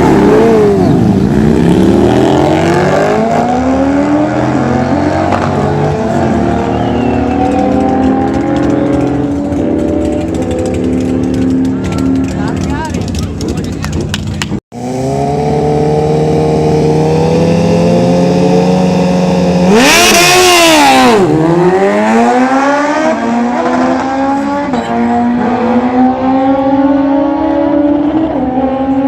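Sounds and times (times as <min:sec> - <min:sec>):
motorcycle engine at full throttle: 0:00.0 - 0:29.0.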